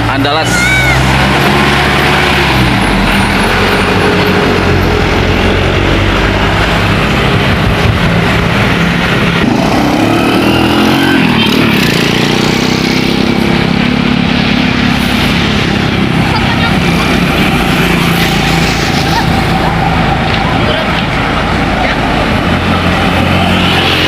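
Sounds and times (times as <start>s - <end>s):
bus diesel engine revving: 0.0s - 24.0s.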